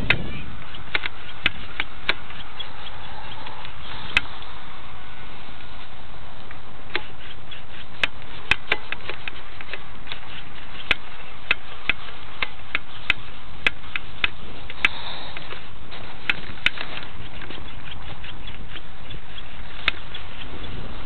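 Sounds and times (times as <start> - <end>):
sharp clicks: 0.0 - 4.5, 6.4 - 20.8
wind on microphone: 0.0 - 5.3, 7.1 - 21.0.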